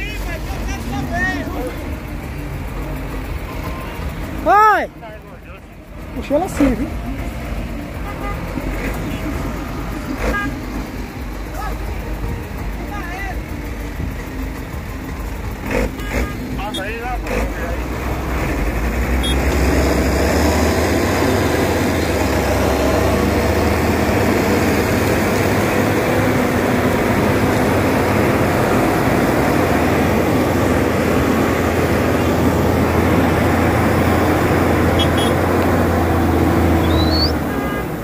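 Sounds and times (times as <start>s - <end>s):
heavy diesel engines running: 0.0s - 38.0s.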